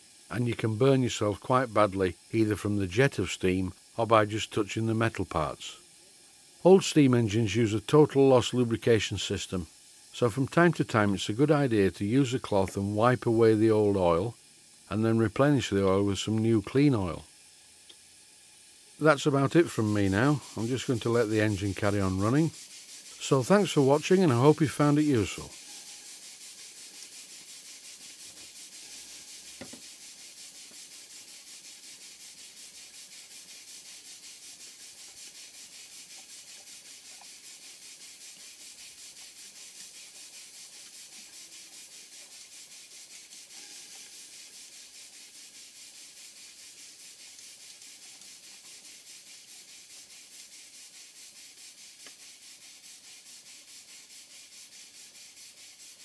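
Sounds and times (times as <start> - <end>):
steam engine exhaust hissing: 0.0 - 56.0.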